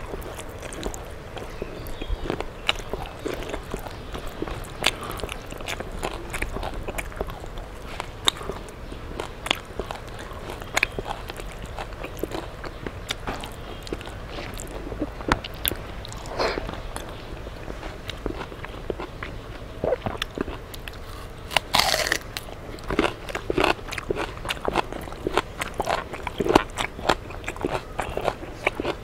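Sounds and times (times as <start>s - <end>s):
chewing and lip-smacking: 0.0s - 29.0s.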